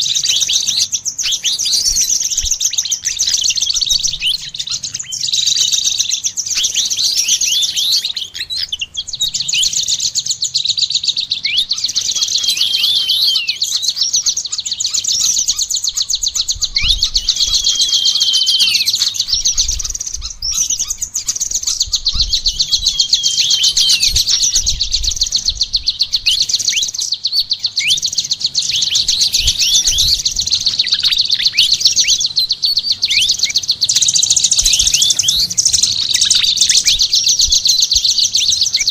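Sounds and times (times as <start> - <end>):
songbirds twittering and trilling: 0.0 - 38.9.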